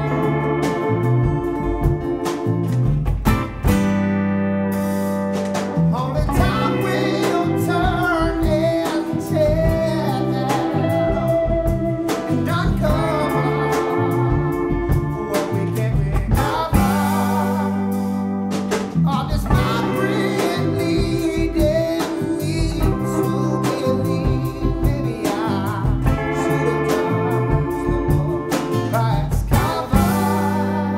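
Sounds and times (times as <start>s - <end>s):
man singing: 0.0s - 1.3s, 5.8s - 30.9s
live rock band playing: 0.0s - 30.9s.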